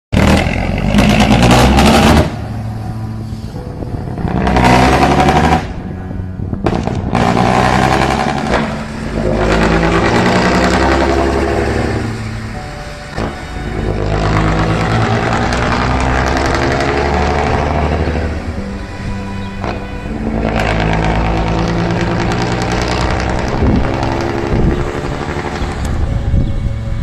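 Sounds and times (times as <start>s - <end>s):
truck diesel engine revving: 0.1s - 27.0s.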